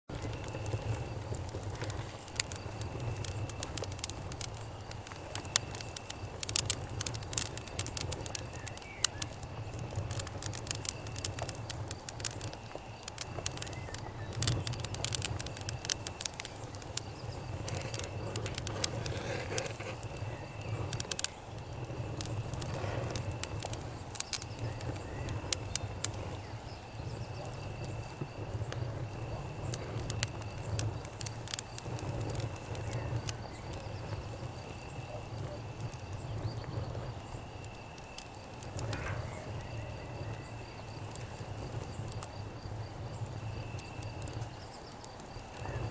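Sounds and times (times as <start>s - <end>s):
campfire crackling and popping: 0.1s - 45.9s
cricket trilling: 0.1s - 45.9s
night insects chorus: 0.1s - 45.9s.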